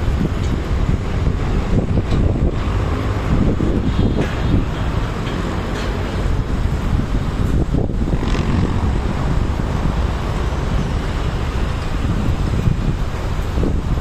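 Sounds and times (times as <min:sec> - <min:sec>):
city traffic: 0:00.0 - 0:14.0
wind buffeting microphone: 0:00.0 - 0:14.0.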